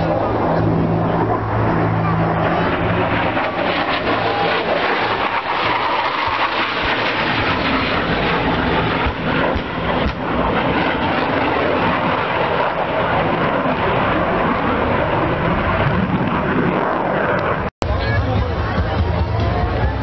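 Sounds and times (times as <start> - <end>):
explosion bangs: 0.0 - 17.2
jet engines roaring: 0.0 - 20.0.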